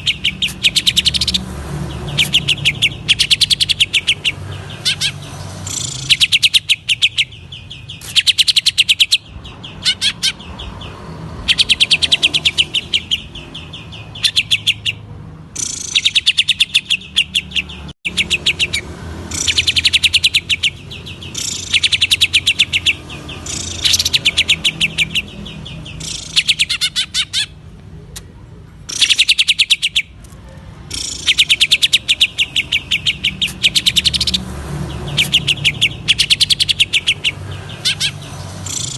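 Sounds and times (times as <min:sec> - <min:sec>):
bird singing fast trills: 0:00.0 - 0:27.6, 0:28.9 - 0:30.2, 0:30.8 - 0:38.9.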